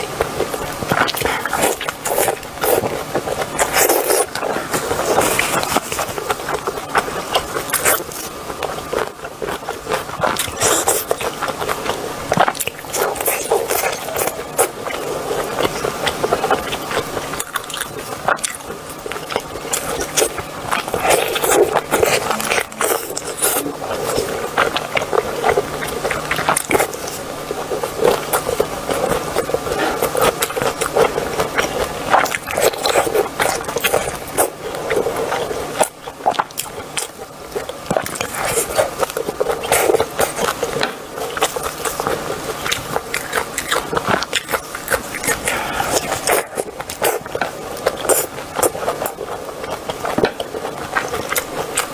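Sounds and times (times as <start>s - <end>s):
chewing and biting: 0.0s - 51.9s.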